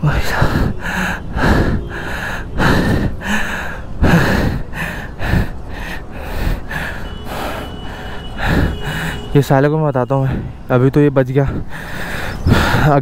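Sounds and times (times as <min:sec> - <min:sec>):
man breathing hard: 0:00.2 - 0:09.3, 0:10.3 - 0:10.6, 0:11.4 - 0:13.0.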